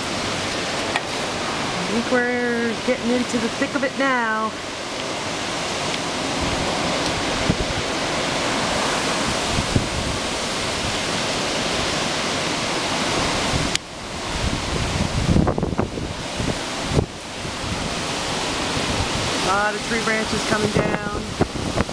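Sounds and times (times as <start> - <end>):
loud wind rushing: 0.0 - 21.9
wind buffeting microphone: 0.0 - 21.9.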